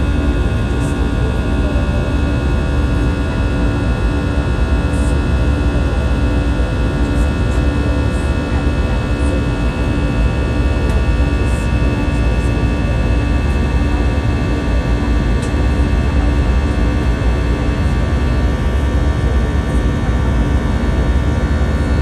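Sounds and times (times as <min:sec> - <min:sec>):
low wavering hum: 0:00.0 - 0:22.0.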